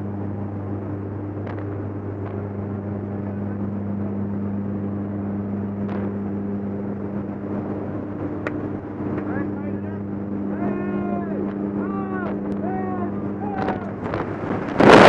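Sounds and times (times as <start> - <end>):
plane engine and propeller hum: 0.0 - 15.0.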